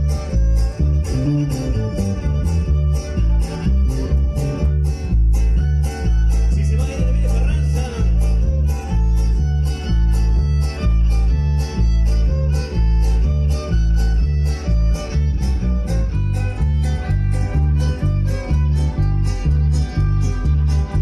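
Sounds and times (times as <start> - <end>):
guitar: 0.0 - 21.0
steady bass beat: 0.0 - 21.0
violin: 0.0 - 21.0.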